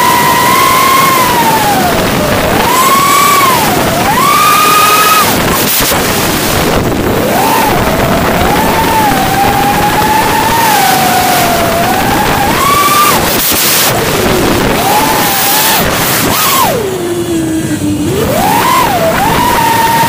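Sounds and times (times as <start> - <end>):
model aircraft motor whining: 0.0 - 20.0
wind rush on microphone: 0.0 - 20.0.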